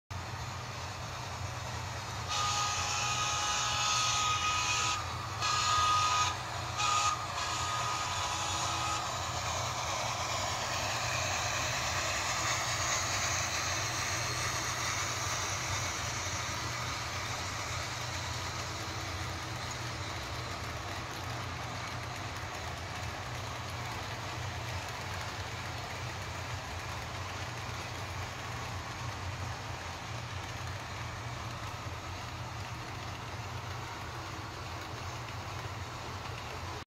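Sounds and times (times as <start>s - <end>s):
model train wheels on rails: 0.1s - 36.8s
model steam locomotive sounds: 0.2s - 36.8s.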